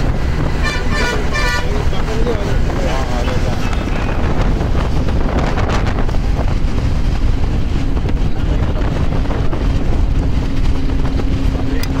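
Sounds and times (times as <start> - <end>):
moving bus running noise: 0.0 - 12.0
wind on microphone: 0.0 - 12.0.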